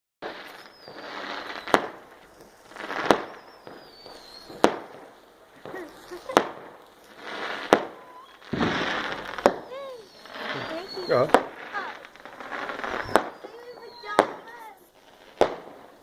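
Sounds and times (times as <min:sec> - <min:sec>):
fireworks banging: 0:00.2 - 0:16.0
rising hiss of fireworks: 0:00.2 - 0:16.0.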